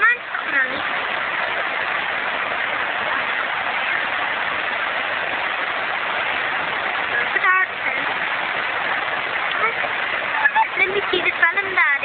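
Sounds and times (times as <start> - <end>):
river water rushing over rapids: 0.0 - 12.0.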